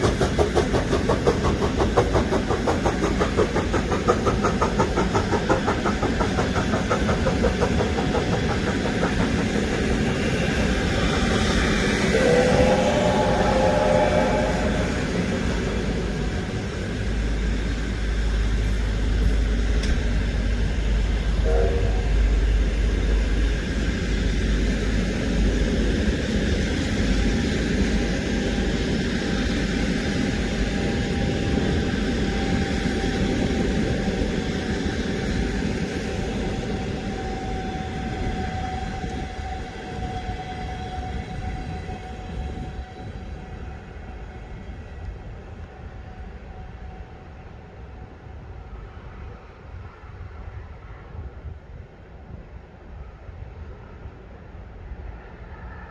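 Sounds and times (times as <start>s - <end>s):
train carriages rumbling past: 0.0s - 51.5s.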